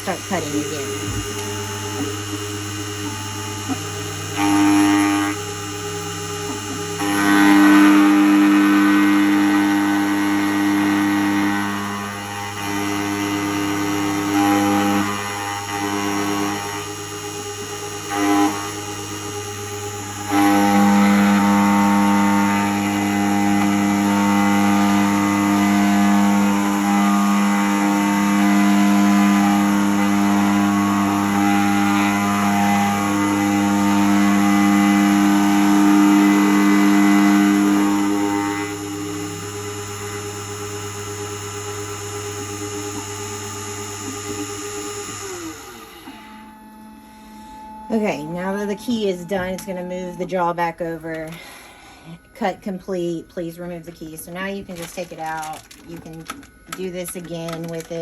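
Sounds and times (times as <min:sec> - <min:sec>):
key-cutting machine whining: 0:00.0 - 0:58.0.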